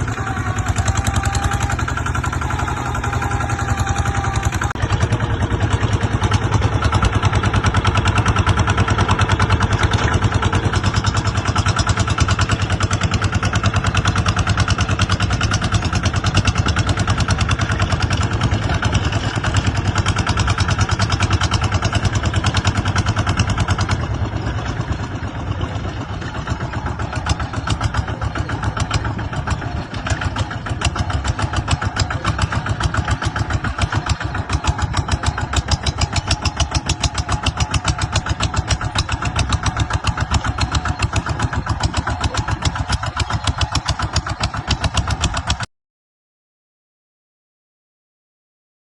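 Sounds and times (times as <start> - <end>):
single-cylinder diesel engine running: 0.0 - 45.7.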